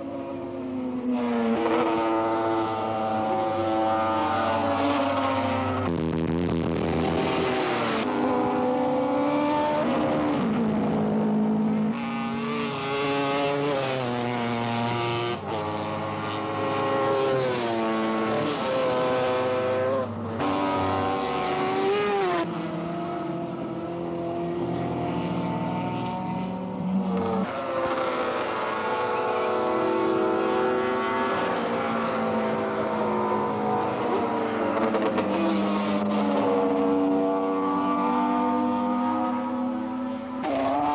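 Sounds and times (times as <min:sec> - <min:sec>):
racing motorcycle engines revving: 0:00.0 - 0:40.9.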